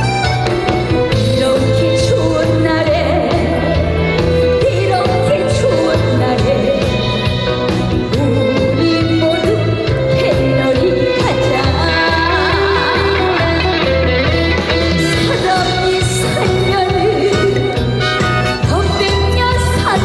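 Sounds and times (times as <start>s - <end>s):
live band song over loudspeakers: 0.0s - 20.0s.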